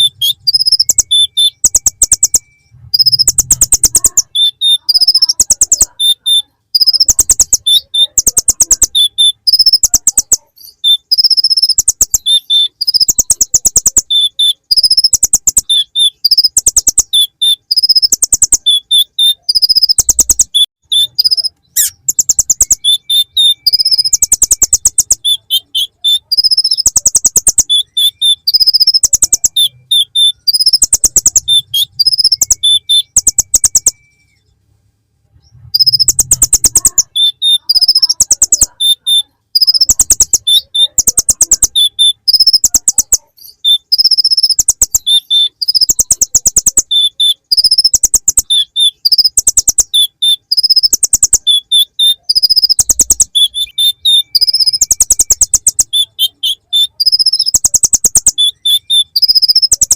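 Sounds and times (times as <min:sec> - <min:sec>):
small bird singing rapid high trills: 0:00.0 - 0:34.5, 0:35.5 - 0:59.9.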